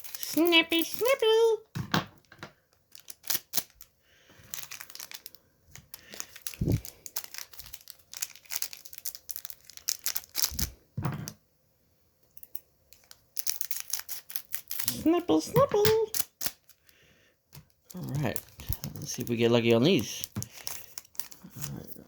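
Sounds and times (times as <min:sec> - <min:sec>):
foil wrappers crinkling and tearing: 0:00.0 - 0:01.5, 0:02.7 - 0:10.8, 0:12.9 - 0:17.0, 0:17.6 - 0:22.0.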